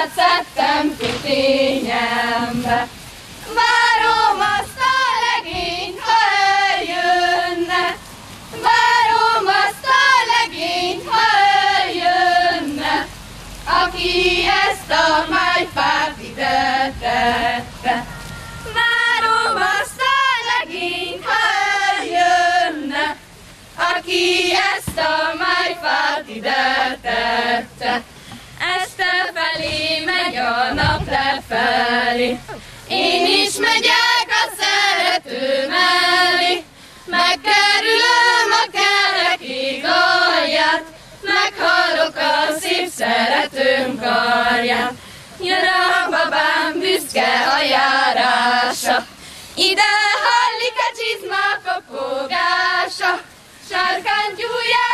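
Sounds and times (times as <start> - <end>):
women and girls singing together: 0.0 - 54.9.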